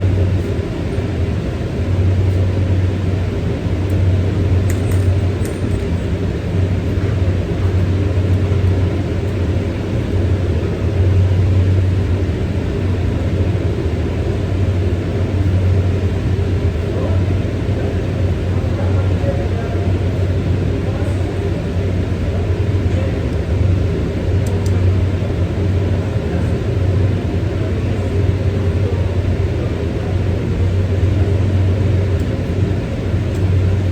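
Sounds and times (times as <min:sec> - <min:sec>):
low machinery hum: 0:00.0 - 0:33.9.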